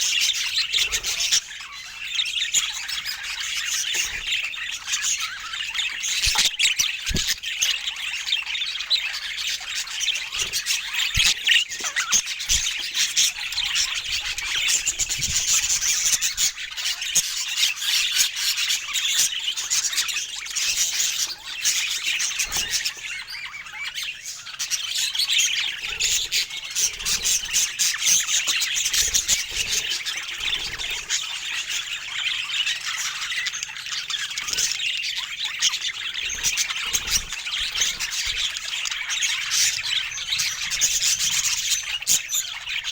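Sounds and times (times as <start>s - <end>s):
budgerigar chatter: 0.0s - 42.9s.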